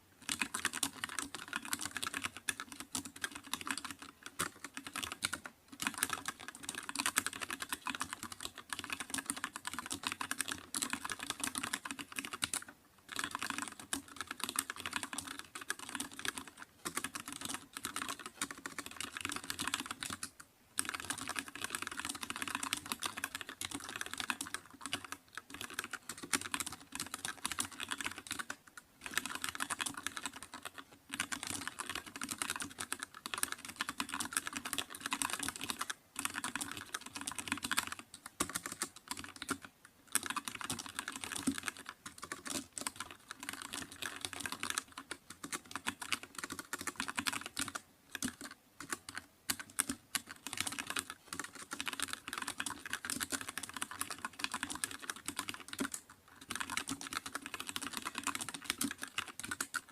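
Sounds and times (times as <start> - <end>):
computer keyboard typing: 0.2 - 59.9.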